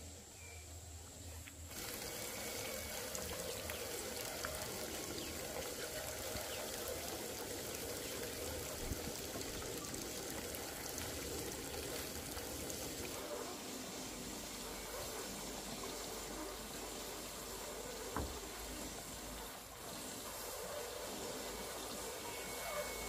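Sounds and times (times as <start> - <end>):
running water trickling: 1.7 - 23.0.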